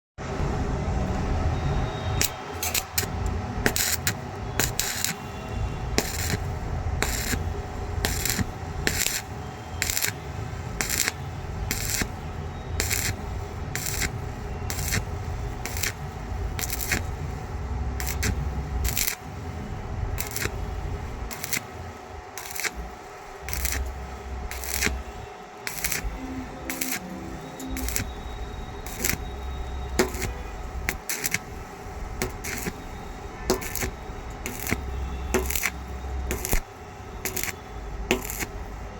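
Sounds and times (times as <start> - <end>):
steady low hum: 0.2 - 38.9
sharp metallic welding clicks: 2.2 - 17.2, 18.0 - 19.3, 20.2 - 20.6, 21.3 - 21.8, 22.4 - 31.6, 32.2 - 38.6.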